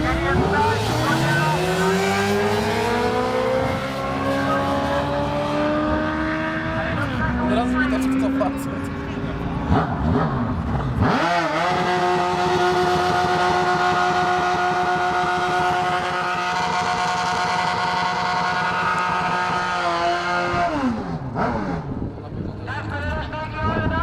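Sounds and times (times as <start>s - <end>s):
motorcycle engine revving: 0.0s - 23.2s.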